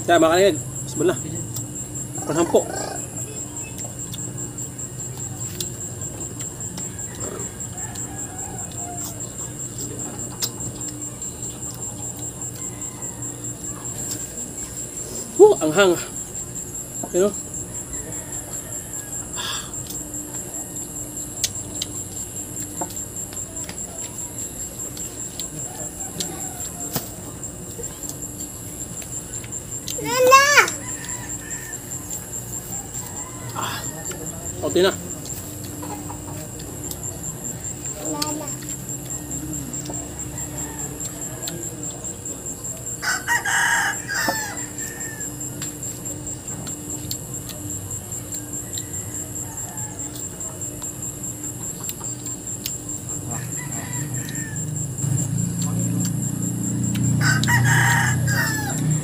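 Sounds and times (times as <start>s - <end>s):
crunchy chewing: 0.0s - 59.0s
insects trilling: 0.0s - 59.0s
rooster crowing: 4.8s - 59.0s.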